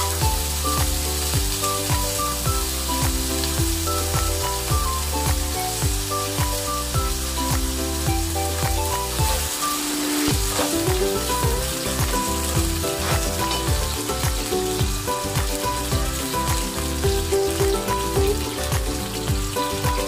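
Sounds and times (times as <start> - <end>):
music with a steady beat: 0.0 - 20.0
potatoes sizzling in oil: 0.0 - 20.0.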